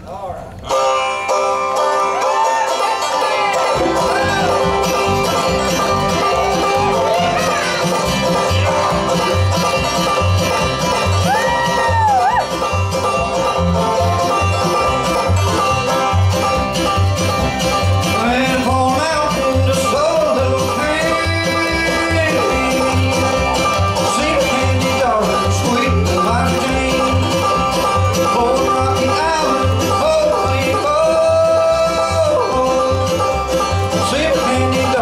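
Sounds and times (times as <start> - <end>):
guitars: 0.0 - 35.0
mandolin: 0.0 - 35.0
banjo: 0.5 - 35.0
upright bass steady beat: 3.6 - 35.0.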